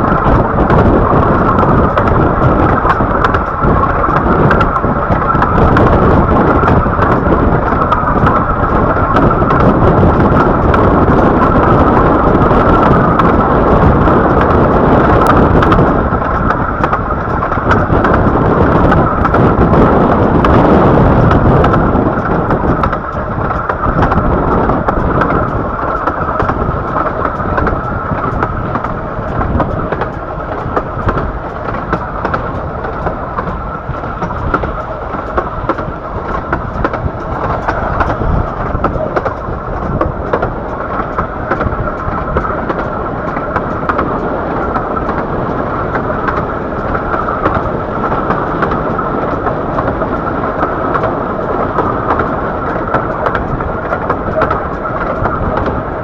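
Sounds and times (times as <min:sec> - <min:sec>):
miniature train rumbling on track: 0:00.0 - 0:56.0
clicks: 0:00.7 - 0:12.0, 0:12.6 - 0:55.8.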